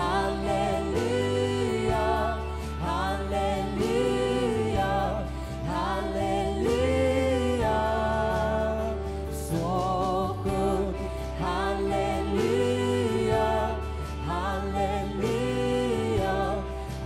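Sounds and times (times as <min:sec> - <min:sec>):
band playing slow song: 0:00.0 - 0:17.0
sustained low bass notes: 0:00.0 - 0:17.0.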